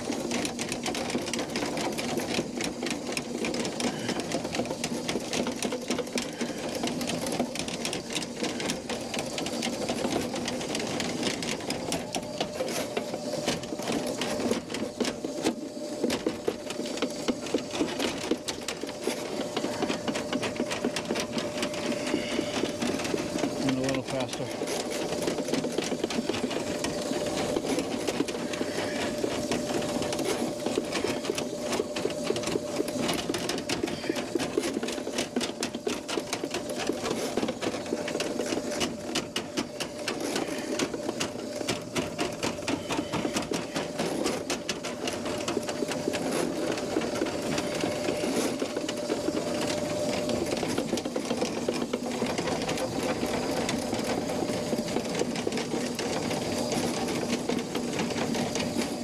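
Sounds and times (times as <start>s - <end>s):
cable rattling in drain pipe: 0.0s - 59.0s
drain cleaner machine running: 0.0s - 59.0s.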